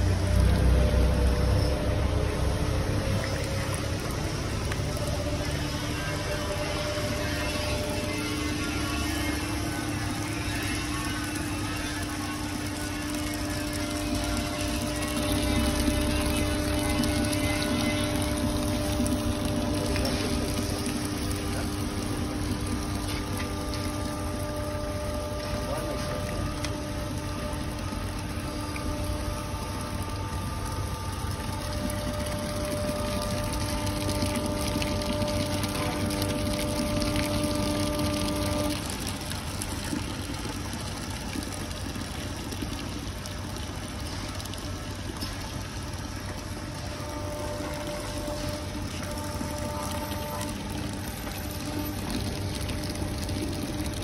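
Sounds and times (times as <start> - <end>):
hydraulic pump humming: 0.0 - 54.0
juice pouring into plastic bucket: 0.0 - 54.0.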